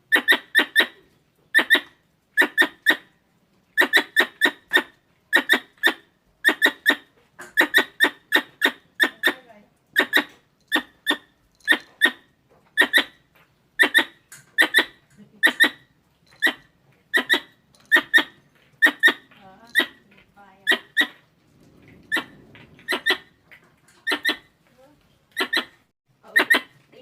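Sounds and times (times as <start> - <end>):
squirrel call chirps: 0.1 - 3.1, 3.8 - 13.2, 13.8 - 20.0, 20.6 - 21.2, 22.1 - 24.5, 25.3 - 26.8.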